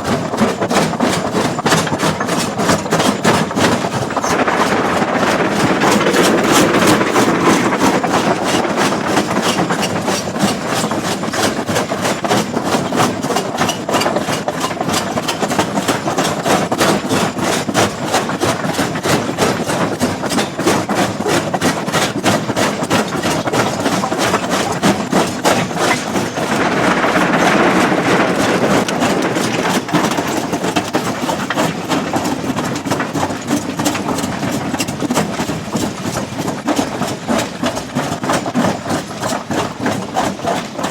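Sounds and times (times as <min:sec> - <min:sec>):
stone crusher engine: 0:00.0 - 0:40.9.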